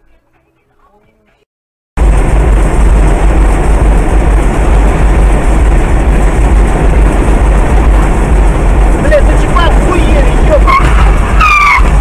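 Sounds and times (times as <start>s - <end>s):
car engine and road rumble: 2.0s - 12.0s.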